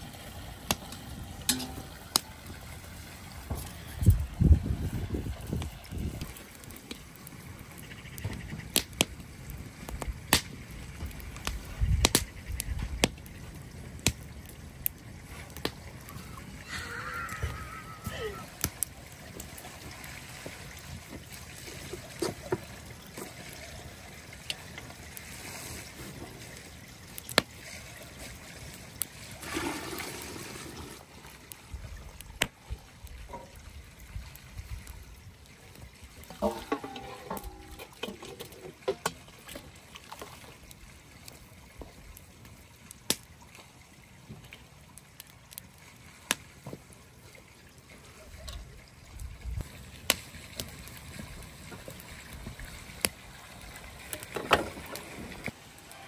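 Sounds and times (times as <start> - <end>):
broth sloshing and trickling: 0.0 - 12.0, 12.7 - 55.9
wood fire crackling and popping: 0.0 - 56.0.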